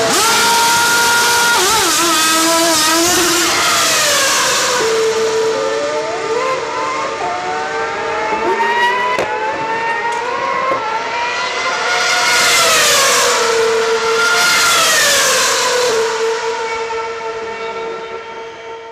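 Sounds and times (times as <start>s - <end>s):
racing car engines passing by: 0.0s - 18.9s.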